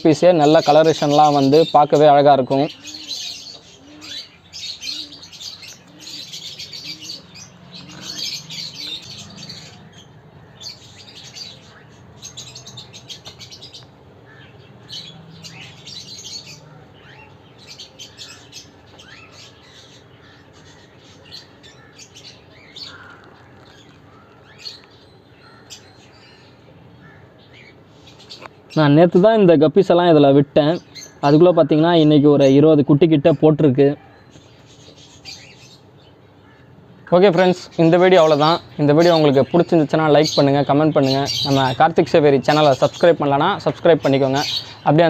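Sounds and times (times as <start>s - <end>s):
small birds chirping and twittering: 0.0s - 45.0s.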